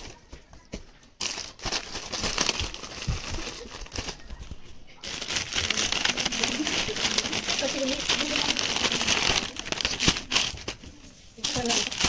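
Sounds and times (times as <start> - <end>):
packaging crinkling and rustling: 1.2 - 12.0.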